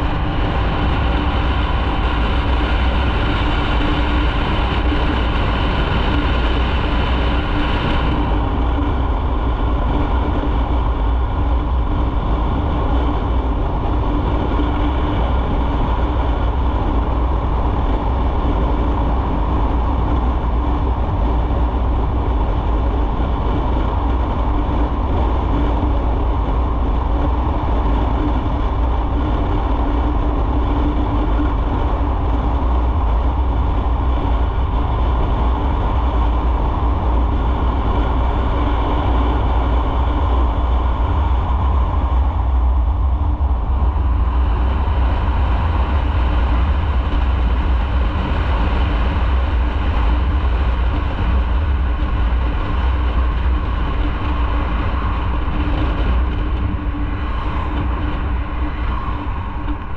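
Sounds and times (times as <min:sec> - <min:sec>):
motorcycle engine drone: 0:00.0 - 0:59.9
wind and road noise: 0:00.0 - 0:59.9.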